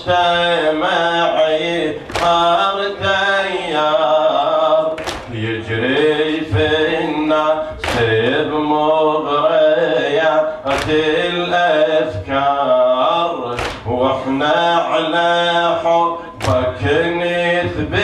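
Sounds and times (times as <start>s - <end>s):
man chanting a lament: 0.0s - 18.0s.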